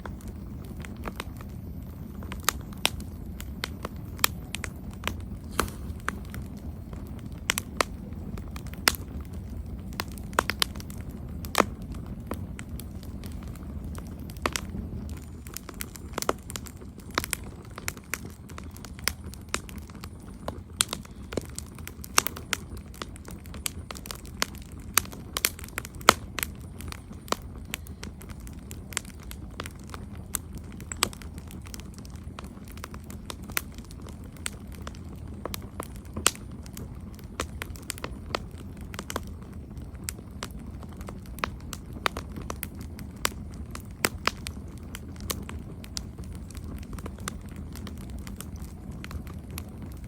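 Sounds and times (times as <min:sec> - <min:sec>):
low rush of flames: 0:00.0 - 0:50.0.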